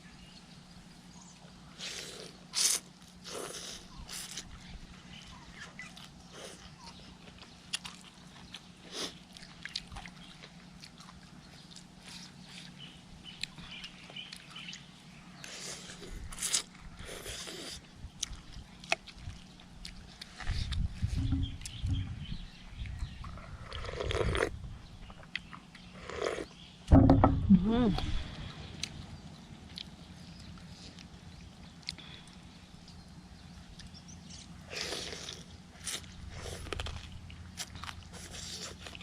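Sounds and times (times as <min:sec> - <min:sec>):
low steady hum: 0:00.0 - 0:39.0
quiet chewing: 0:01.2 - 0:26.7, 0:28.0 - 0:39.0.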